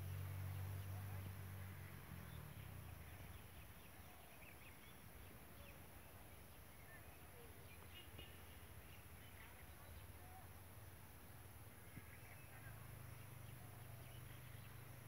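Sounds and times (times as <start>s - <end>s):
faint bird chirps: 0.0s - 10.6s, 11.2s - 15.0s.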